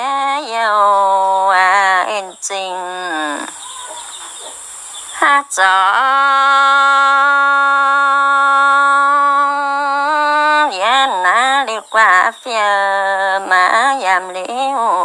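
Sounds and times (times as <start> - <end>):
person singing: 0.0 - 3.6, 5.2 - 15.0.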